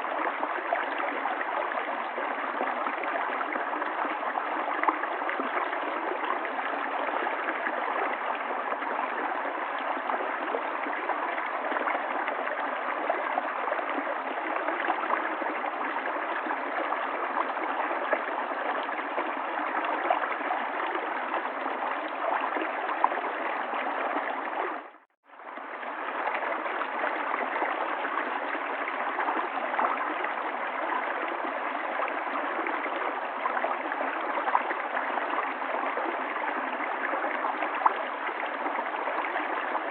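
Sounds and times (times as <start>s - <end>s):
river water flowing and gurgling: 0.0s - 39.9s.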